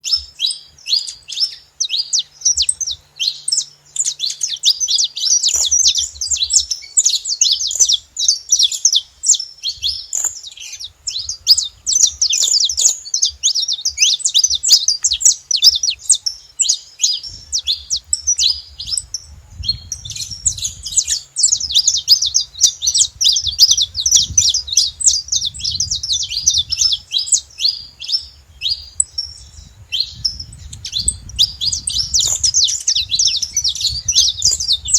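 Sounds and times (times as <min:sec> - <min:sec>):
finches chirping and singing: 0:00.0 - 0:34.9.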